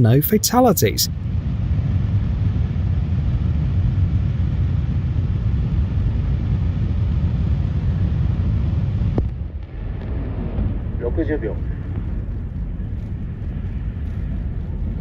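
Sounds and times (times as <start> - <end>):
rocket motor rumbling: 1.3 - 15.0.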